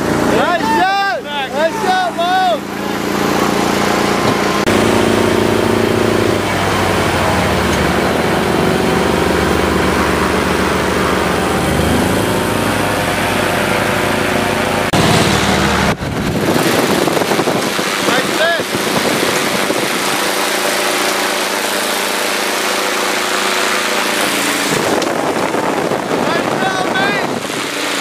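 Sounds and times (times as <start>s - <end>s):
small engine idling: 1.2s - 28.0s.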